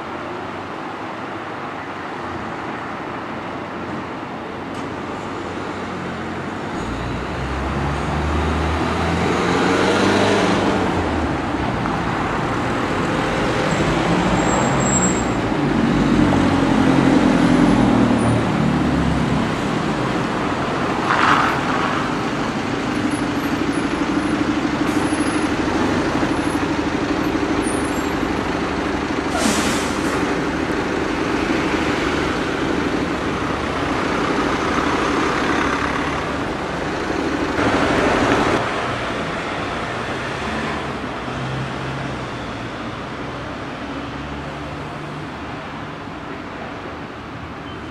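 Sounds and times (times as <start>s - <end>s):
heavy vehicle rumble: 0.0s - 47.9s
vehicles passing and idling: 0.0s - 47.9s.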